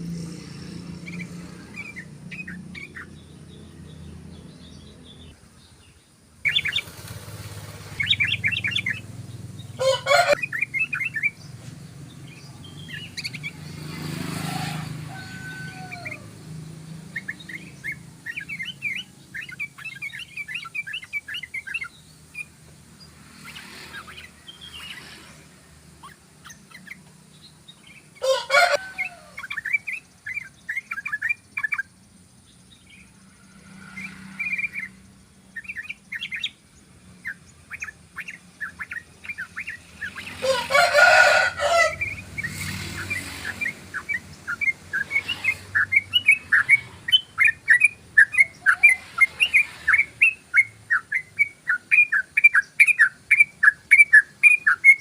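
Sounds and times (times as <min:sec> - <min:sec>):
bird singing chattering song: 0:00.0 - 0:55.0
harsh bird calls: 0:00.0 - 0:55.0.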